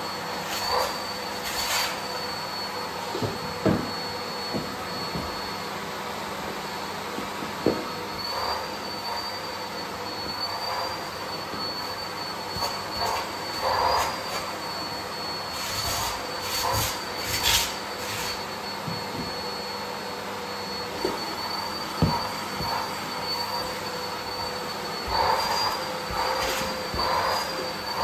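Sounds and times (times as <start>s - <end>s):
vacuum cleaner whining: 0.0s - 28.0s.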